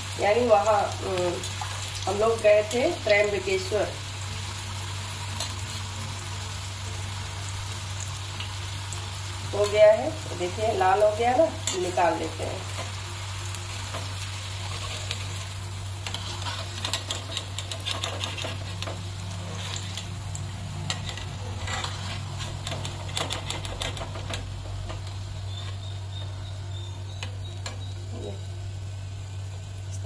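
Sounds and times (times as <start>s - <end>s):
okra sizzling in hot oil: 0.0s - 30.0s.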